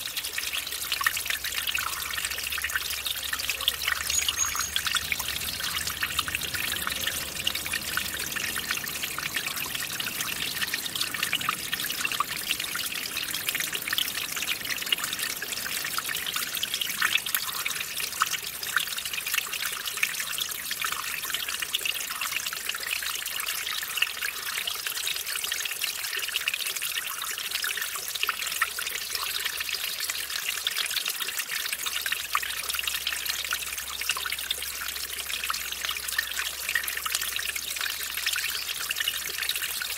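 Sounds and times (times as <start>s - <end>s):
stream splashing over waterfall: 0.0s - 39.9s.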